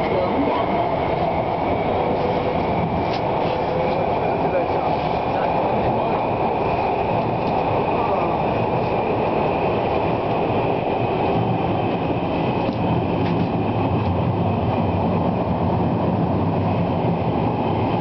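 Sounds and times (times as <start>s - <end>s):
wheels rumbling on track: 0.0s - 18.0s.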